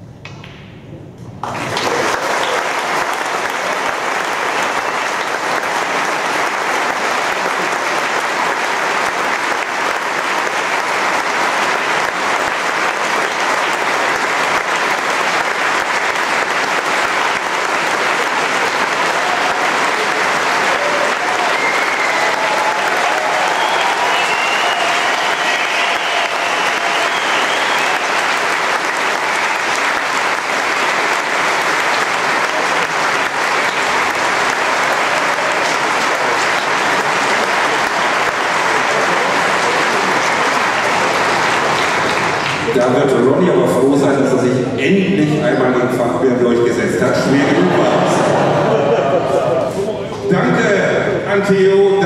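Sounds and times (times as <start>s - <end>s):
large audience applauding: 1.4s - 44.2s, 47.0s - 50.8s.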